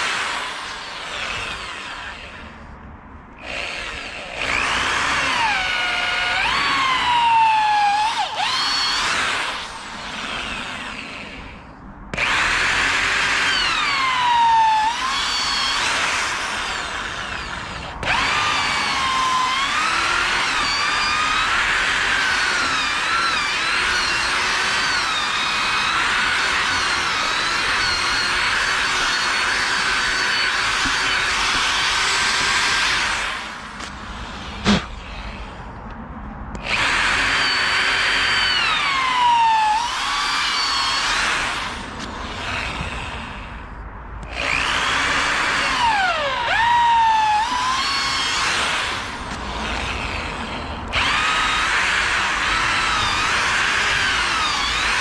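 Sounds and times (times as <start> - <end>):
power drill boring into wood: 0.0 - 2.6, 3.4 - 35.6, 36.6 - 43.6, 44.2 - 55.0.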